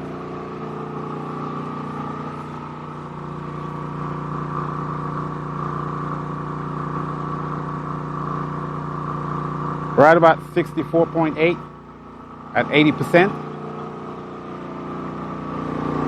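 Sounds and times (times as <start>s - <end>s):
generator engine running: 0.0s - 16.0s.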